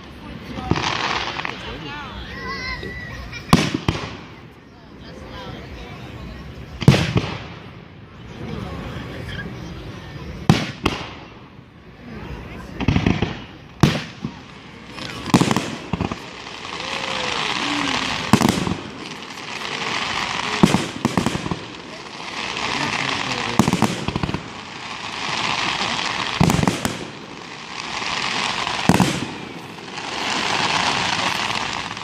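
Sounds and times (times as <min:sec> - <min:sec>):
firework bangs: 0:00.0 - 0:04.4, 0:06.7 - 0:07.8, 0:10.4 - 0:11.5, 0:12.5 - 0:32.0
hissing crackle of fireworks: 0:00.0 - 0:32.0.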